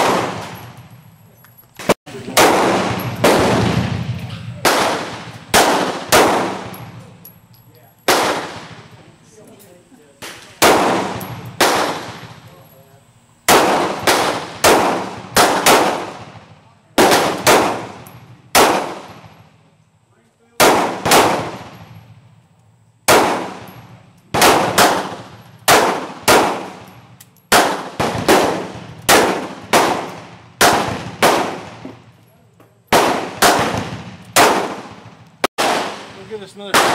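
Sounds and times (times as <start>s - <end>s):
revolver gunshots with echo: 0.0s - 0.9s, 1.8s - 7.3s, 8.0s - 9.0s, 10.2s - 12.6s, 13.5s - 19.6s, 20.6s - 22.1s, 23.1s - 32.1s, 32.9s - 36.9s.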